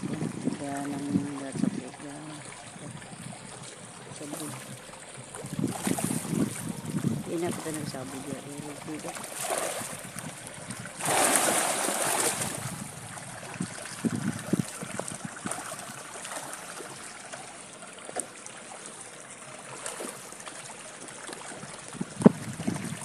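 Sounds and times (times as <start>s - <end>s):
fish splashing in pond: 0.0s - 23.0s
water trickling: 0.0s - 23.0s.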